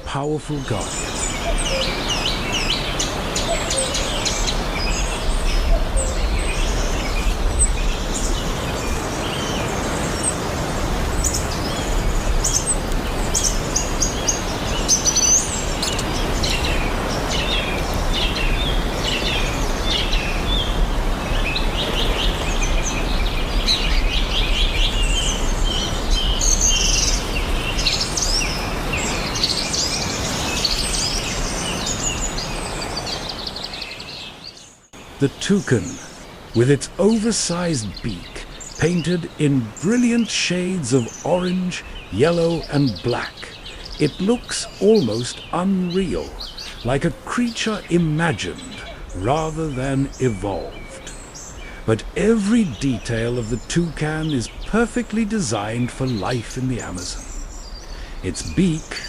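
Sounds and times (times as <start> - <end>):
birds chirping and calling: 0.0 - 59.0
steady background hiss: 0.0 - 59.0.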